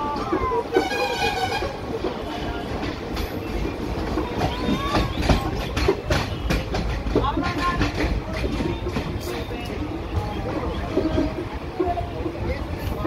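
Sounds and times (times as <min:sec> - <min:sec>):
train rumbling along track: 0:00.0 - 0:13.0
wheels clattering over rail joints: 0:00.0 - 0:13.0.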